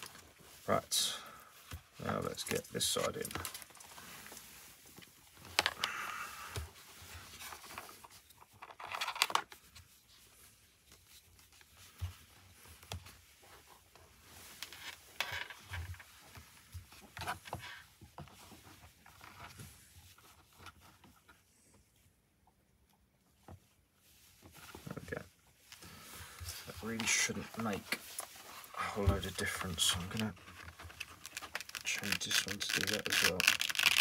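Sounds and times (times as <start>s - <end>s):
rustling and scraping of padding: 0.0s - 22.1s, 23.4s - 31.8s.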